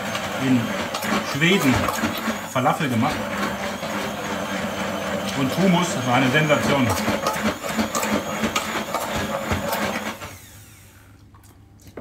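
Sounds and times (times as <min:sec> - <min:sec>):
hand blender whirring: 0:00.0 - 0:11.1.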